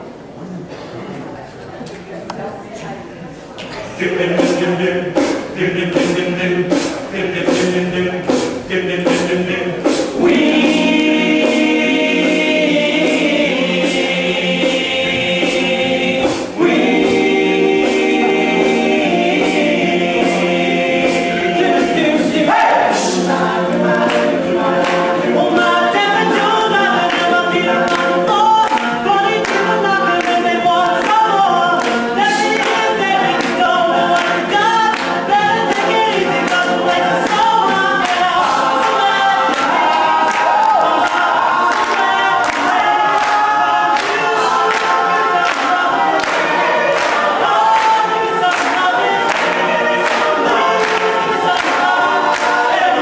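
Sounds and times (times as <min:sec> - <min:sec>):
male a cappella group singing: 0:03.8 - 0:53.0.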